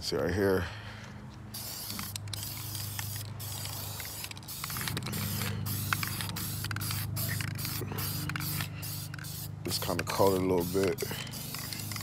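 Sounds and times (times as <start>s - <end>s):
spray paint can hissing: 1.5s - 12.0s.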